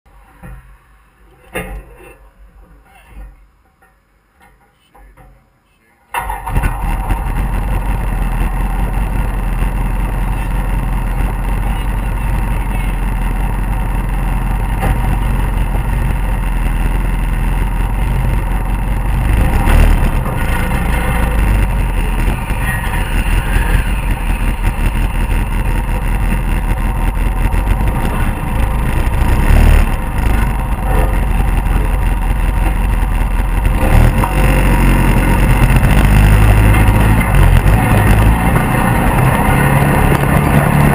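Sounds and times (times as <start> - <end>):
vehicle engine running: 6.2 - 40.9.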